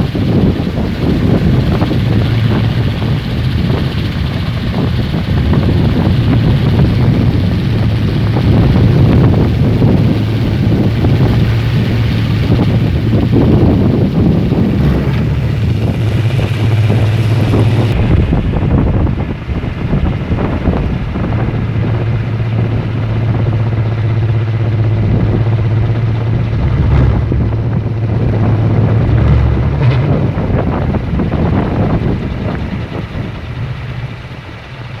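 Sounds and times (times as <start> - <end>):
wind noise on microphone: 0.0 - 35.0
wind propeller low drone: 0.0 - 35.0.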